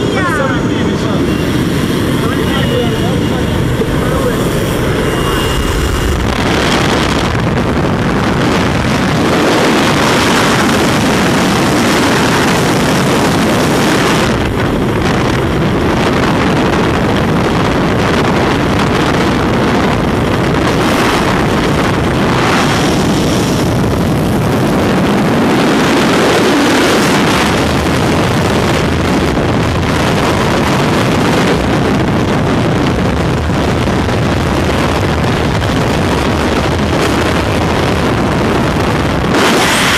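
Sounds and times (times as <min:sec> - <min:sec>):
freefall wind buffeting microphone: 0:00.0 - 0:39.9.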